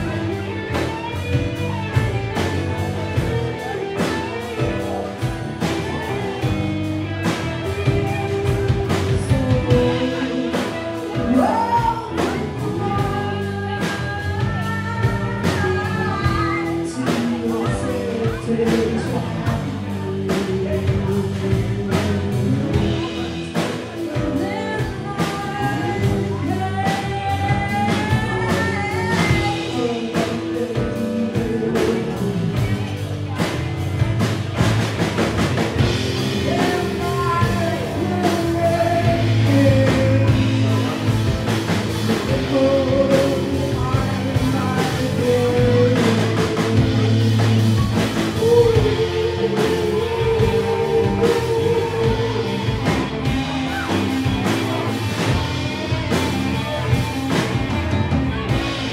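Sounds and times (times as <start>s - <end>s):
bass guitar: 0.0s - 58.9s
drum kit beat: 0.0s - 58.9s
electric guitar: 0.0s - 58.9s
woman singing: 5.8s - 33.4s, 35.8s - 58.9s.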